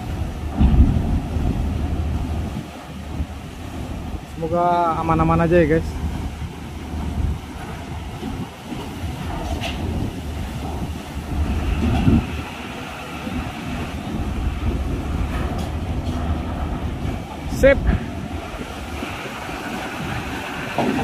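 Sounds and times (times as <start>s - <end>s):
diesel truck engine running low: 0.0s - 21.0s
rumble and clatter of steel ramp: 0.0s - 21.0s.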